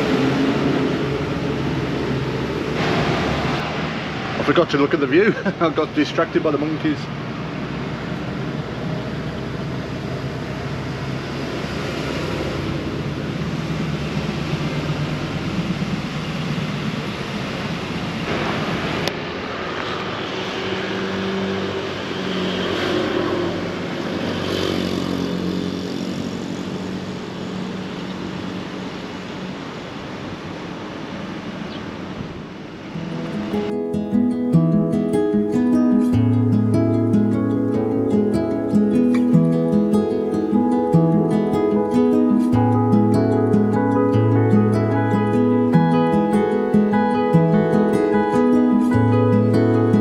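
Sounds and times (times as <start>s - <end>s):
road rumble: 0.0s - 50.0s.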